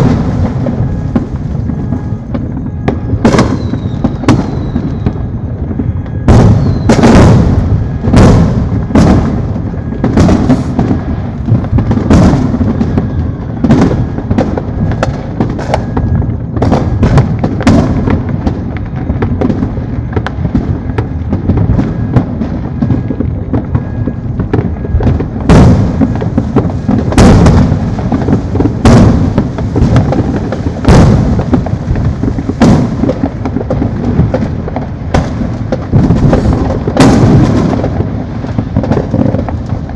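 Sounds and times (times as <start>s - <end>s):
fireworks booming and popping: 0.0s - 39.9s
rumble of distant fireworks: 0.0s - 39.9s.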